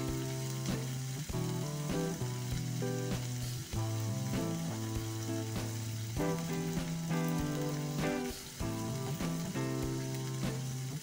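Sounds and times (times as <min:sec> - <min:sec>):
background music with held notes: 0:00.0 - 0:11.0
flowers sizzling in a wok: 0:00.0 - 0:11.0.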